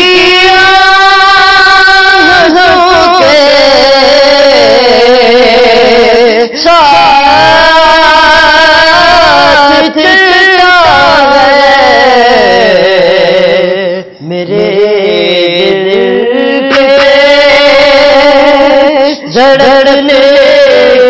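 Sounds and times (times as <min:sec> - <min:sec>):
man singing solo: 0:00.0 - 0:21.0.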